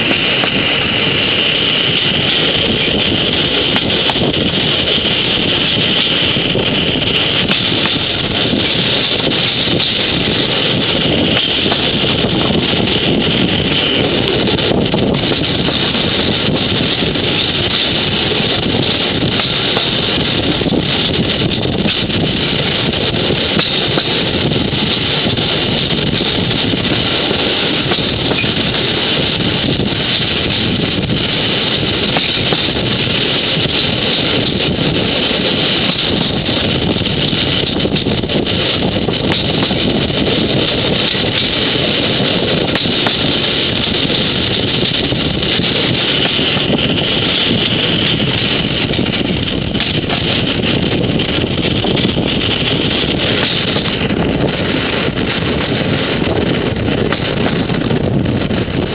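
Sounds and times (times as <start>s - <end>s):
moving vehicle running noise: 0.0s - 58.9s
wind on microphone: 0.0s - 58.9s.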